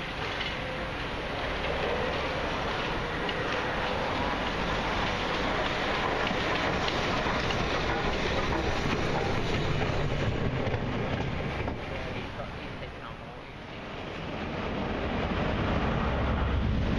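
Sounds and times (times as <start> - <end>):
steam train rumbling on rails: 0.0 - 16.9.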